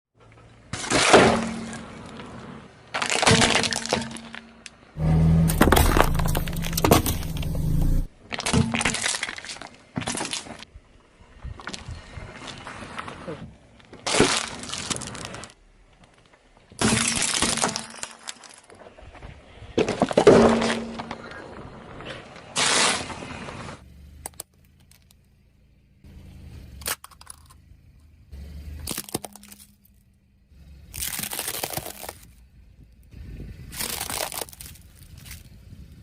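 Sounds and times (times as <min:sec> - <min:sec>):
objects crunching under car tyres: 0:00.6 - 0:10.7, 0:11.4 - 0:25.3, 0:28.6 - 0:36.0.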